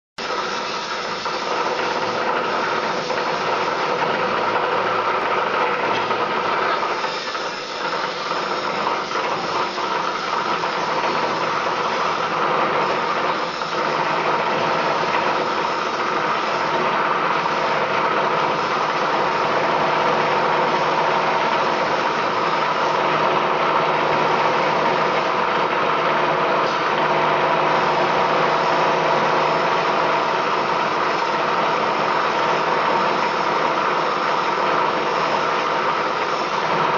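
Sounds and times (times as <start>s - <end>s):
machine hum with whine: 0.2s - 36.9s.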